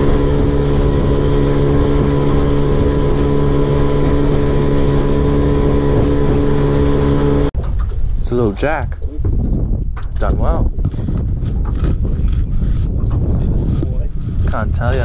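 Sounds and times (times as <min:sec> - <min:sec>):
outboard motor running: 0:00.0 - 0:08.1, 0:09.1 - 0:15.0.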